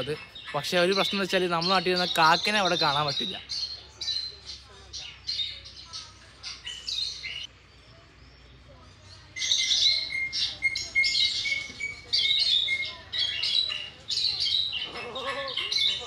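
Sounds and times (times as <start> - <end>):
birds calling harshly: 0.0 - 16.0.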